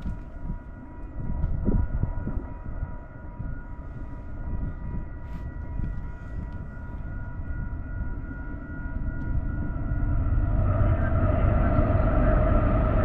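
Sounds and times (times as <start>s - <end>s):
distant freight train rumble: 0.0s - 13.0s.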